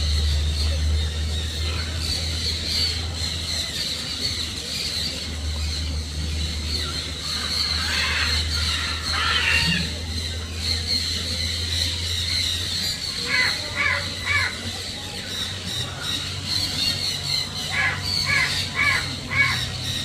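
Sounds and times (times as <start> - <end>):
harsh scratchy bird calls: 0.0 - 20.0
steady high-pitched whine: 0.0 - 20.0.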